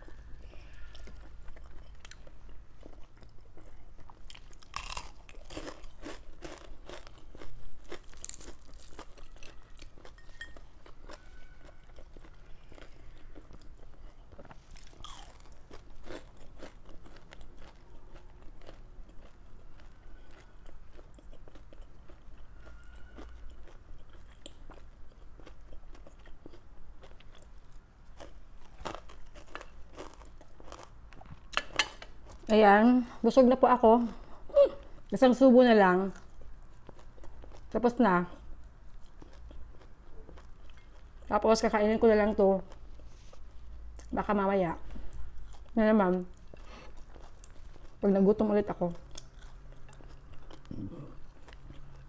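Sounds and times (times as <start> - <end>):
chewing crispy fried fish: 0.1 - 32.5, 36.2 - 41.4, 44.8 - 48.0, 49.0 - 52.0.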